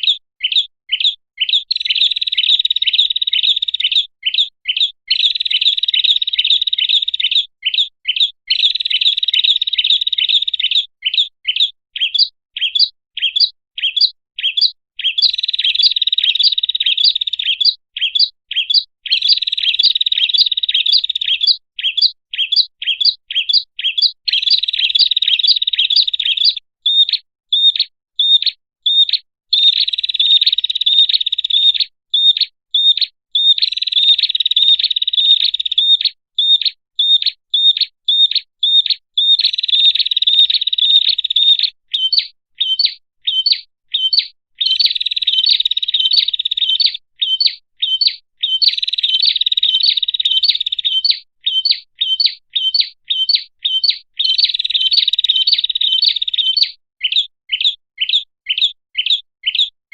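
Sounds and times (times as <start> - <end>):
bird chirping and trilling: 0.0 - 59.8.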